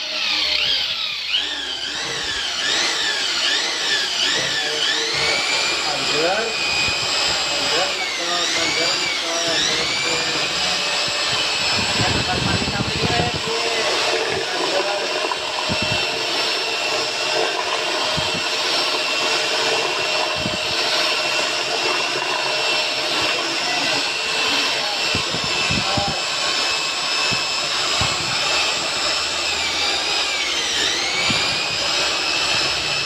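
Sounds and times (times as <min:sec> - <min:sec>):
mixing machine motor whirring: 0:00.0 - 0:33.0.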